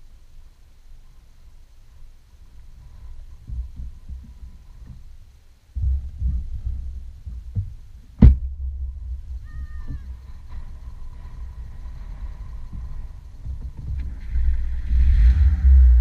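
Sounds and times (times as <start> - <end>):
low rumble through car body: 0.0 - 16.0.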